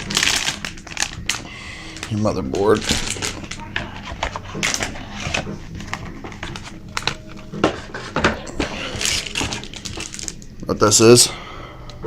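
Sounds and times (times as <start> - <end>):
cardboard and plastic rustling: 0.0 - 10.4.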